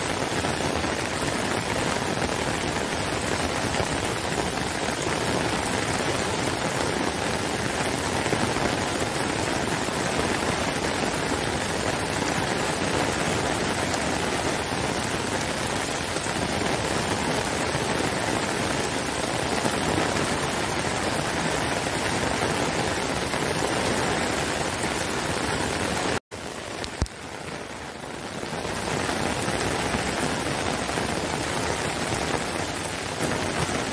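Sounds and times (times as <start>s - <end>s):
heavy rain on grass and brick: 0.0s - 33.9s.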